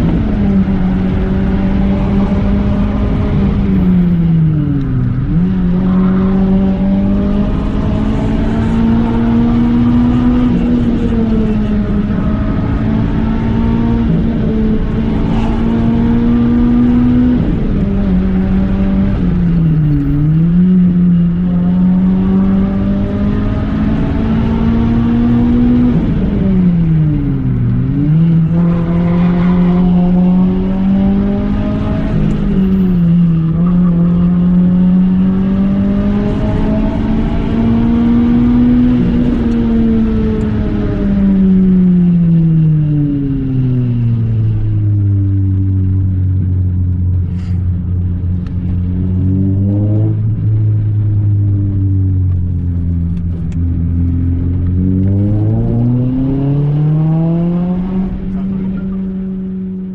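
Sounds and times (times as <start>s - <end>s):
car engine accelerating uphill: 0.0s - 59.9s.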